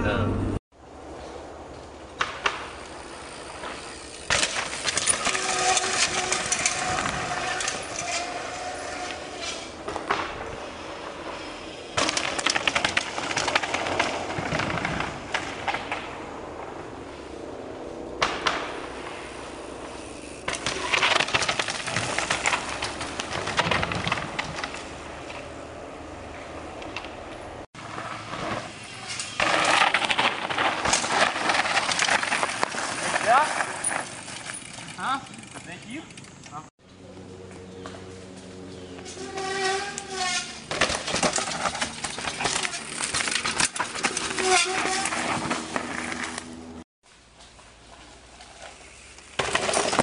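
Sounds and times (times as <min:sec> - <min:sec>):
mountain bikes rattling down trail: 0:01.6 - 0:17.0, 0:18.2 - 0:36.7, 0:37.6 - 0:46.6, 0:47.3 - 0:50.0.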